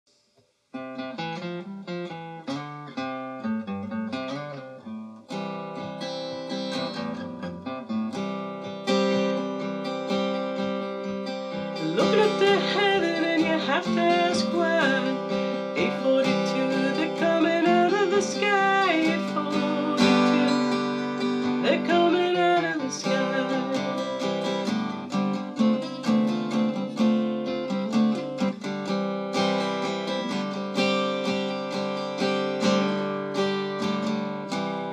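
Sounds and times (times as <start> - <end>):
acoustic guitar picking: 0.8 - 34.9.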